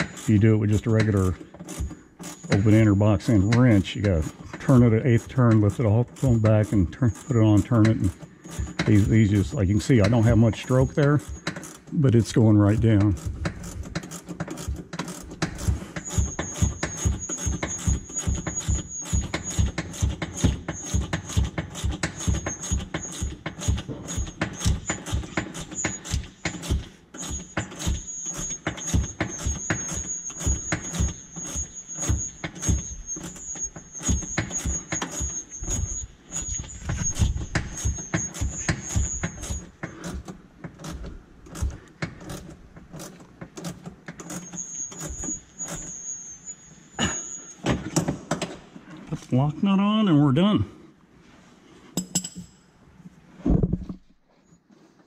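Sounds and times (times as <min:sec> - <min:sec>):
ratcheting wrench clicking: 0:00.0 - 0:12.4, 0:13.0 - 0:46.0.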